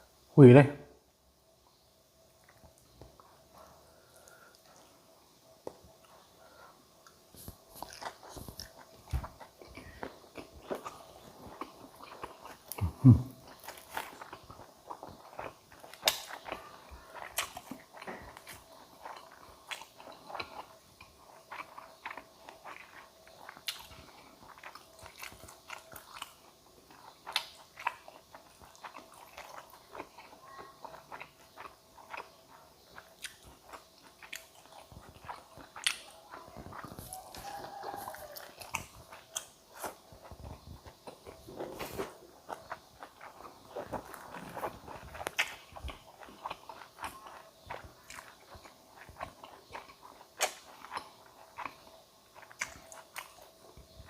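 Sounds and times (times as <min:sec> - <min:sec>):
person chewing crunchy food: 0:02.4 - 0:54.0.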